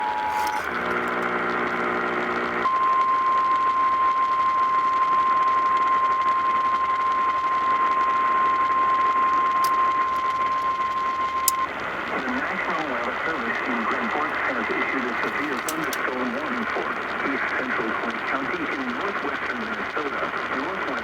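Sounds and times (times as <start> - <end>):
radio static hiss: 0.0 - 2.7, 6.6 - 21.0.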